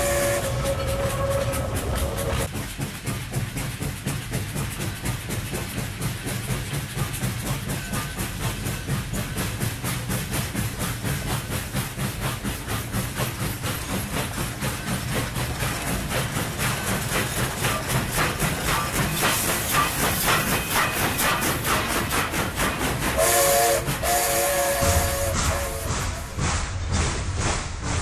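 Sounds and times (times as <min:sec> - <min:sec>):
steam hissing: 0:00.0 - 0:28.0
steam locomotive chuffing: 0:00.0 - 0:28.0.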